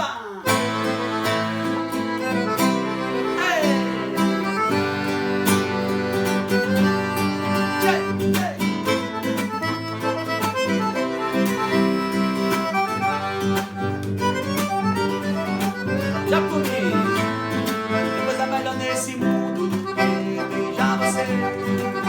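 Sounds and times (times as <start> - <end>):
guitar: 0.0 - 22.0
accordion: 0.4 - 22.0.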